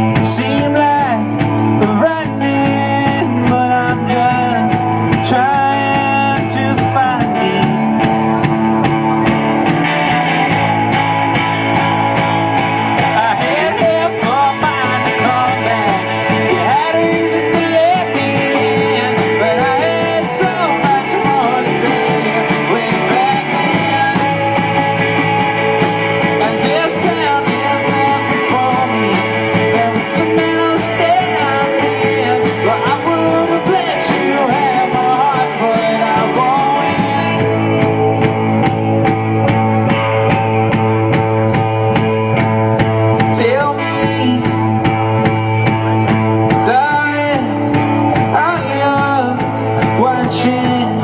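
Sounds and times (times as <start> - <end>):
man singing: 0.0 - 8.9, 11.7 - 38.8, 43.0 - 51.0
guitars: 0.0 - 51.0
rock band playing live: 0.0 - 51.0.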